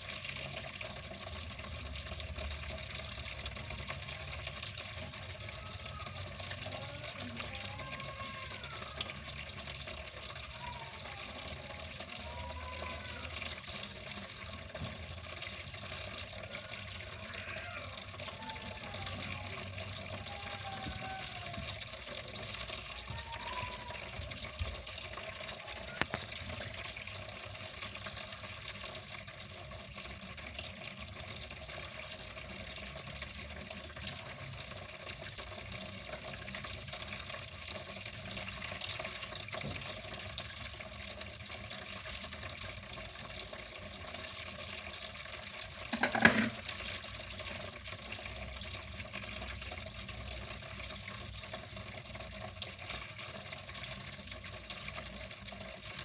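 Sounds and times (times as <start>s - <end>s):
water running: 0.0s - 56.0s.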